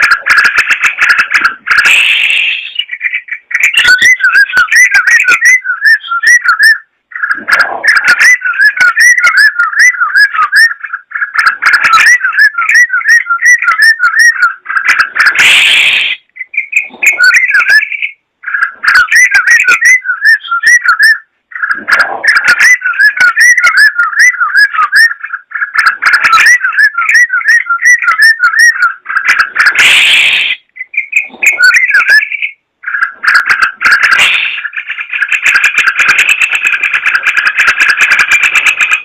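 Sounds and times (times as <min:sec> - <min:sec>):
bulbul singing chattering phrases: 0:00.0 - 0:39.0.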